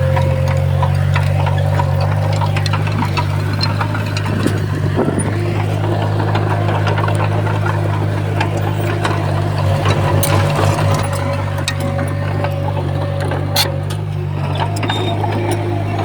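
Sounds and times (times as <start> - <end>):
bulldozer diesel engine running: 0.0 - 16.0
sharp clicks and knocks: 0.0 - 16.0.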